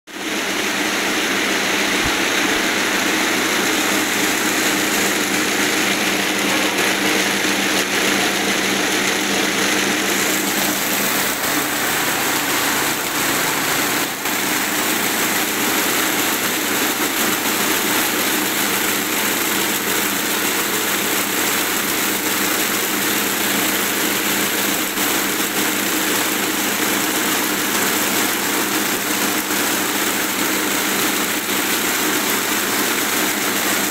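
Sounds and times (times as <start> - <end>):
braiding machine running: 0.1 - 33.9.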